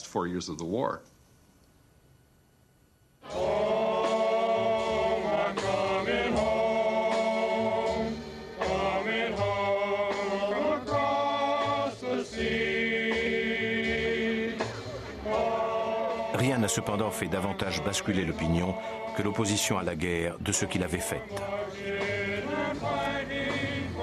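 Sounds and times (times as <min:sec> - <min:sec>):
men singing together: 0:03.3 - 0:24.0.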